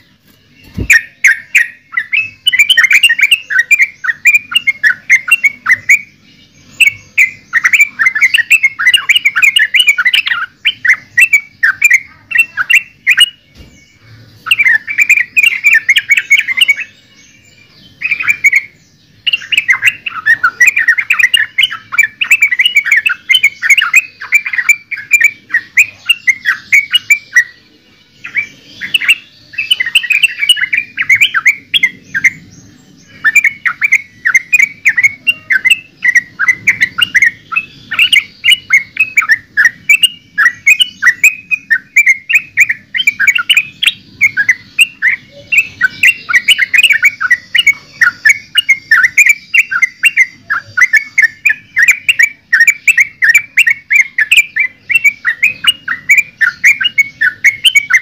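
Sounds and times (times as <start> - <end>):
bird singing and chattering: 0.0 - 58.0.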